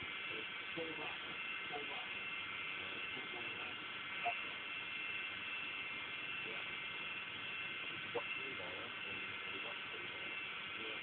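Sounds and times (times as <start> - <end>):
cement mixer running: 0.0 - 11.0.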